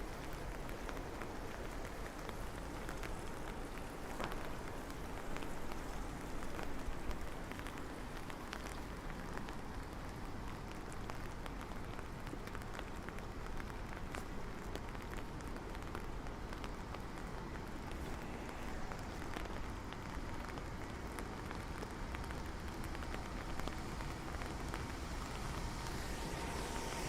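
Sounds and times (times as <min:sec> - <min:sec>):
raindrops ticking on surfaces: 0:00.0 - 0:27.0
steady rain falling: 0:00.0 - 0:27.0.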